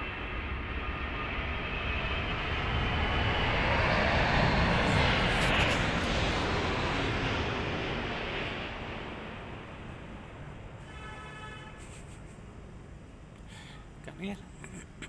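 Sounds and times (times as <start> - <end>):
fighter jet flying over: 0.0 - 13.0.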